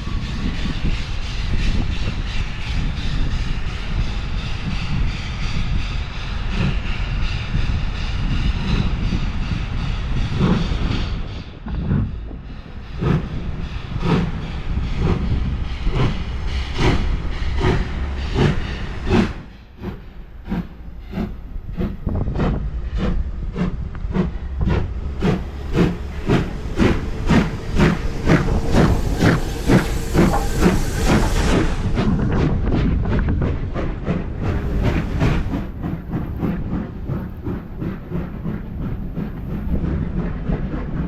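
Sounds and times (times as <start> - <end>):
steam locomotive chuffing: 0.0 - 41.0.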